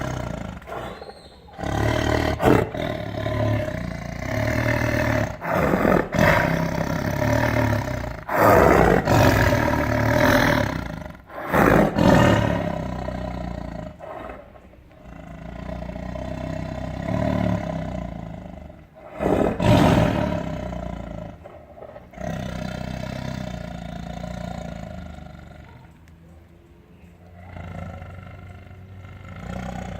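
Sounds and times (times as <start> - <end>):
tiger roaring and growling: 0.0 - 25.9, 27.2 - 29.9.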